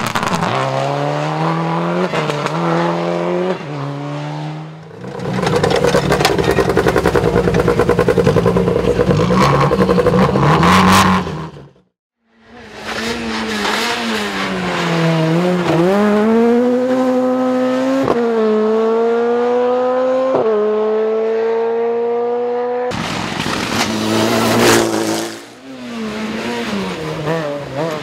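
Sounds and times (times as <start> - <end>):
rally car engine at full throttle: 0.0 - 28.0.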